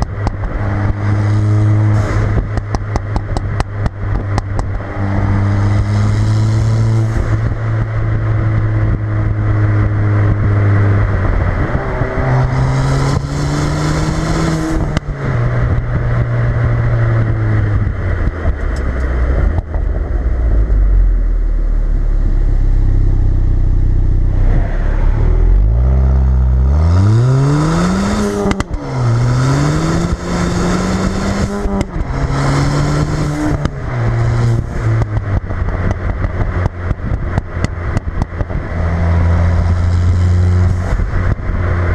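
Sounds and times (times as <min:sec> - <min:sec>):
exhaust pops: 0:00.0 - 0:20.8, 0:27.7 - 0:41.9
car engine revving: 0:00.0 - 0:41.9.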